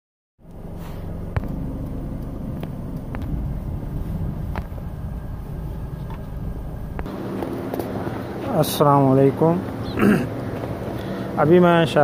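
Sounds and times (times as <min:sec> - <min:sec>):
car engine and road rumble: 0:00.4 - 0:12.0.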